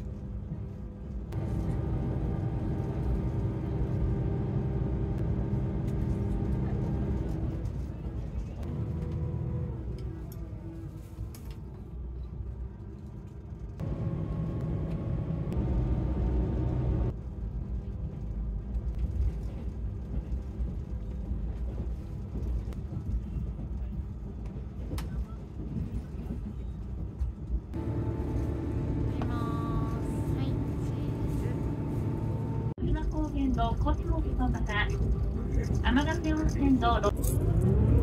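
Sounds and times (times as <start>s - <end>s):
diesel train rumble: 0.0s - 38.0s.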